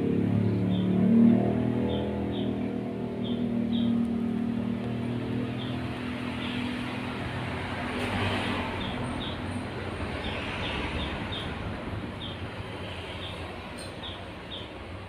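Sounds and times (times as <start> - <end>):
birds chirping: 0.0 - 7.7, 8.3 - 15.0
low engine hum: 0.0 - 14.0
road traffic rushing: 0.0 - 15.0.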